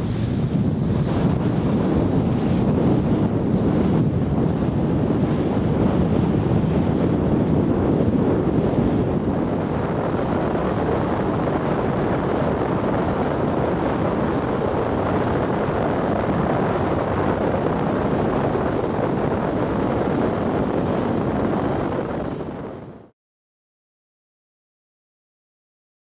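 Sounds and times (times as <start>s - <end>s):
water rushing along hull: 0.0s - 23.1s
wind on microphone: 0.0s - 23.1s.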